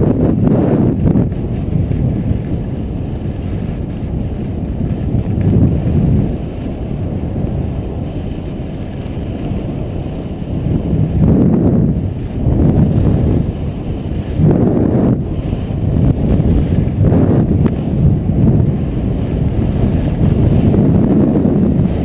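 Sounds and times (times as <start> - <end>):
skis scraping snow: 0.0 - 22.0
wind buffeting microphone: 0.0 - 22.0.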